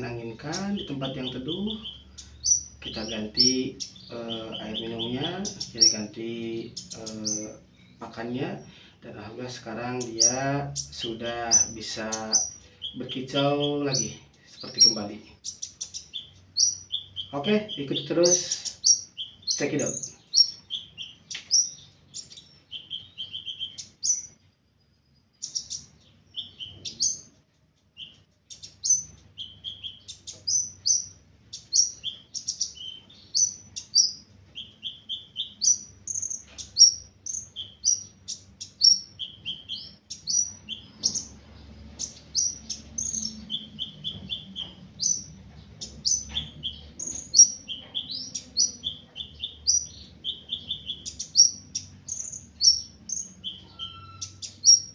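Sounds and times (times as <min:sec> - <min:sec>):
bird chirping and trilling: 0:00.0 - 0:54.9.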